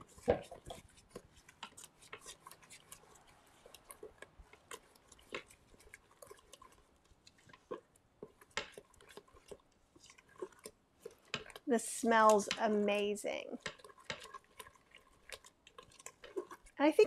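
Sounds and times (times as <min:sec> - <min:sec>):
spatula scraping a metal pot: 0:00.0 - 0:17.0.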